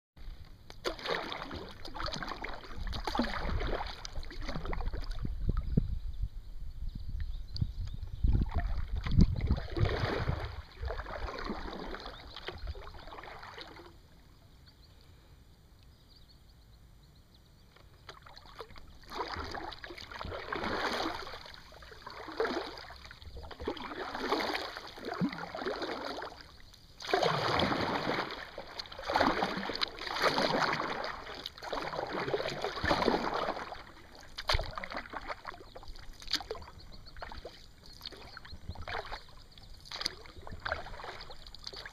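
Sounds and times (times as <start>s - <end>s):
kayak paddle strokes in water: 0.2s - 5.6s, 7.8s - 14.0s, 17.8s - 41.9s.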